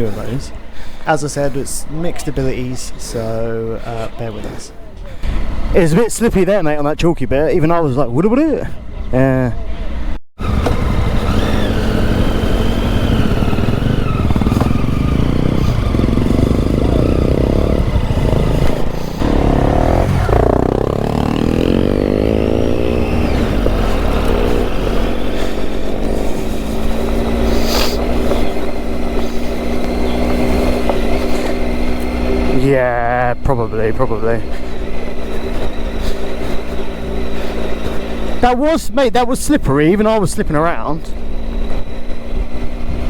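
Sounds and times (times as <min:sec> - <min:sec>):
motorcycle engine revving: 0:00.0 - 0:06.5, 0:08.8 - 0:43.0.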